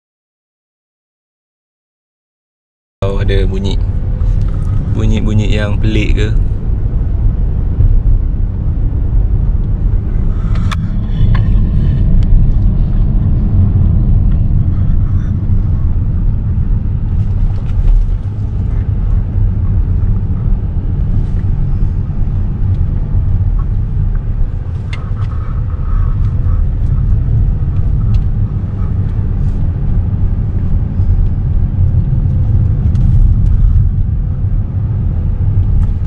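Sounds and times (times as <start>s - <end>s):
car cabin road rumble: 3.0s - 36.0s.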